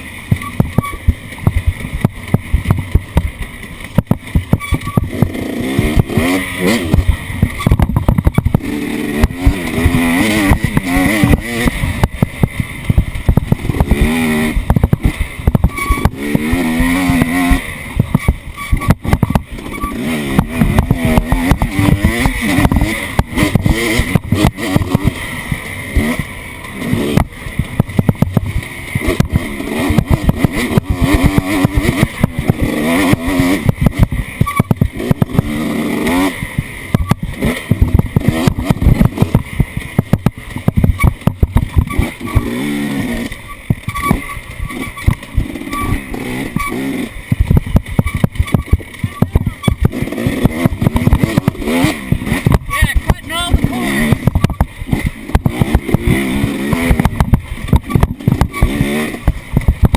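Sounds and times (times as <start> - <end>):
vehicle engine revving: 0.0 - 59.9
knocks and rattles: 0.3 - 59.9.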